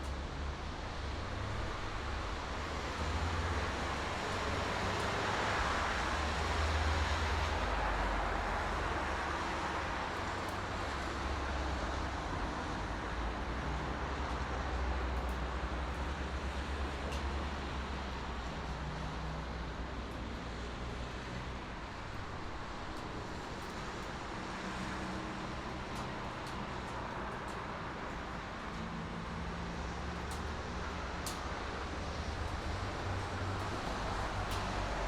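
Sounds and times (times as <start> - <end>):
car passing with tyre noise: 0.0 - 35.0
highway traffic rumble: 0.0 - 35.0.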